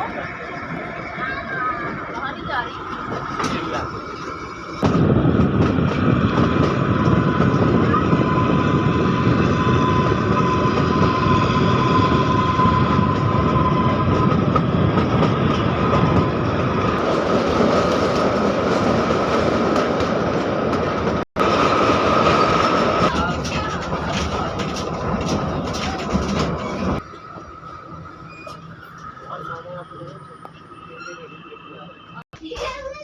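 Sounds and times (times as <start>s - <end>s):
train rumble and wheel clatter: 0.0s - 33.0s.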